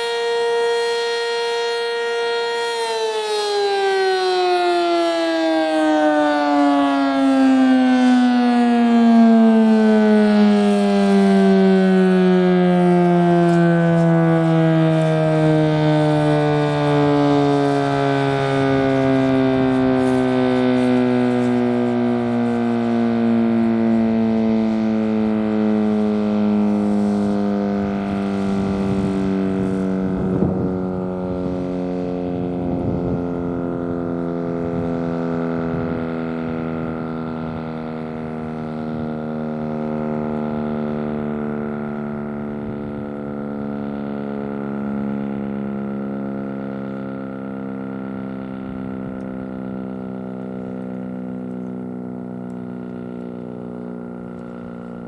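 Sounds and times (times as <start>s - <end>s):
siren winding down: 0.0s - 55.0s.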